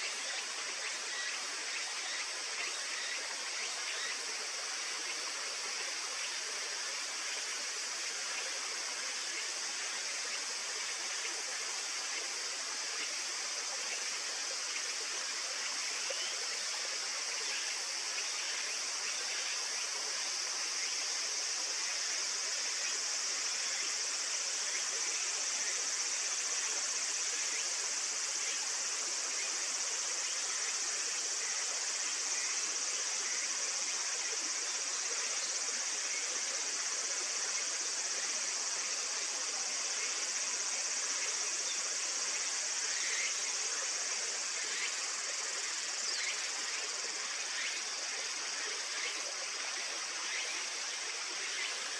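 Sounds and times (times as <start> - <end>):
flowing water: 0.0 - 51.9
high-pitched insect chorus: 0.0 - 51.9.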